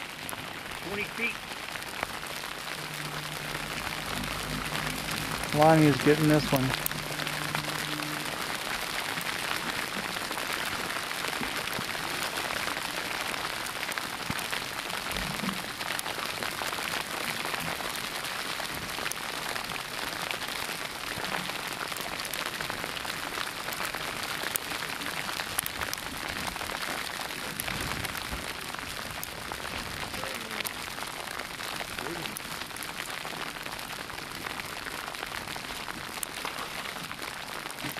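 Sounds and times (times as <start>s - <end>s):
hail pattering: 0.0s - 37.9s.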